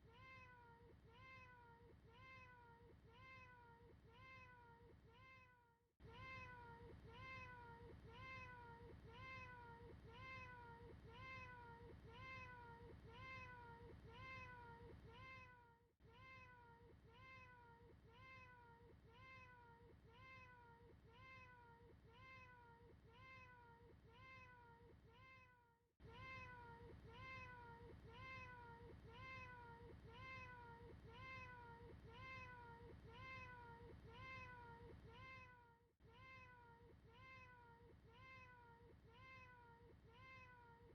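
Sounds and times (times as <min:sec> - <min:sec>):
faint cat meow: 0:00.0 - 0:40.9.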